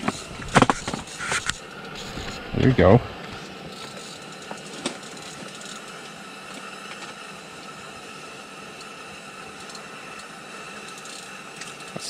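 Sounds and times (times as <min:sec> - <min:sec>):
gas heater hissing: 0:00.0 - 0:12.0.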